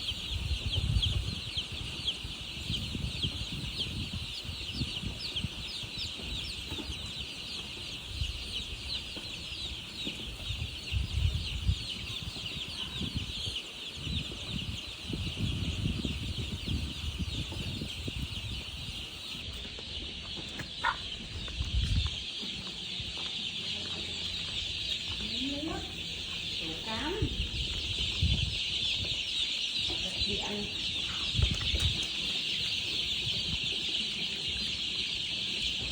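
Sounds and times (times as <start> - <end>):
baby chicks peeping: 0.0 - 35.9.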